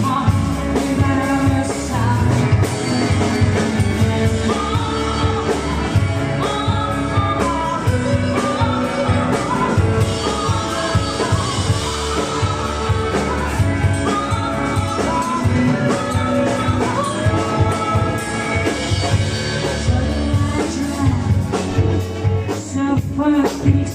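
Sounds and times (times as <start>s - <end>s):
drums keeping steady beat: 0.0s - 23.9s
person singing: 0.0s - 23.9s
rock band playing: 0.0s - 23.9s.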